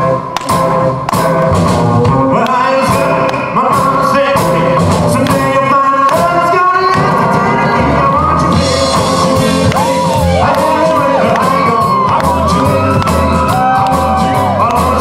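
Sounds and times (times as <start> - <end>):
drum kit: 0.0 - 15.0
electric guitar: 0.0 - 15.0
upright double bass: 0.0 - 15.0
man singing lead: 2.0 - 15.0.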